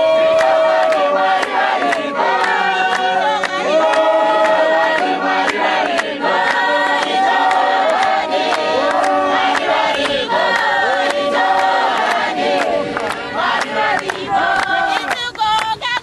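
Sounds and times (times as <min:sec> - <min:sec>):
congregation singing a hymn: 0:00.0 - 0:15.3
hand clapping: 0:00.3 - 0:16.0.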